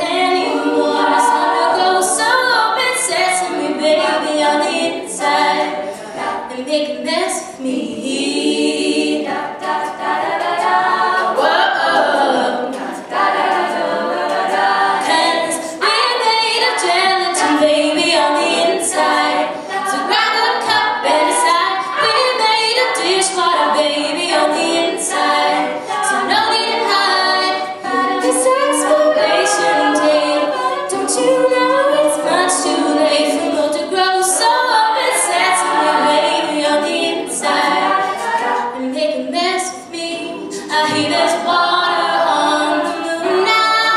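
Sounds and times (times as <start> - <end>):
women singing backing vocals: 0.0 - 43.9.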